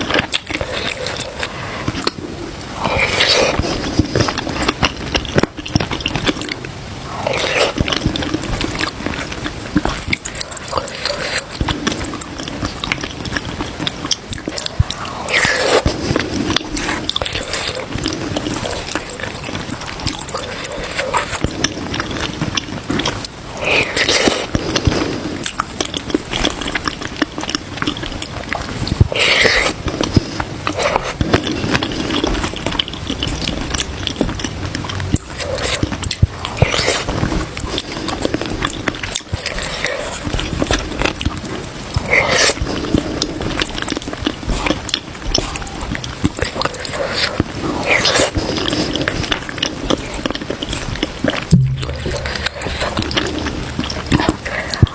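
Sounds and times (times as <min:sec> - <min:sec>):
close chewing: 0:00.0 - 0:54.9.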